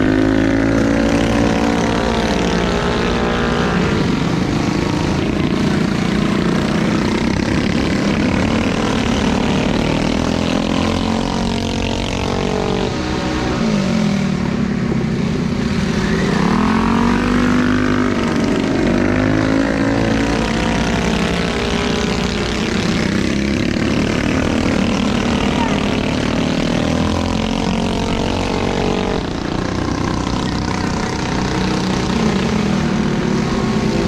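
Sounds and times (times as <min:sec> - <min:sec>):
minibike engines racing: 0:00.0 - 0:34.0.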